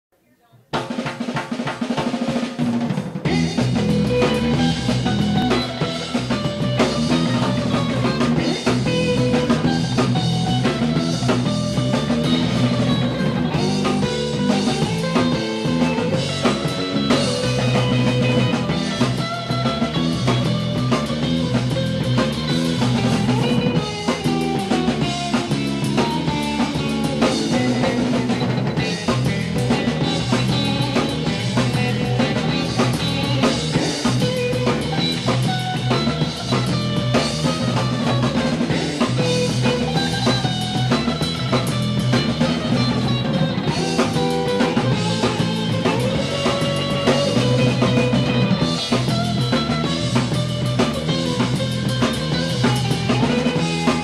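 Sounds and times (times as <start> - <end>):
drum kit beat: 0.2 - 54.0
bass: 1.0 - 54.0
electric guitar melody: 1.8 - 54.0.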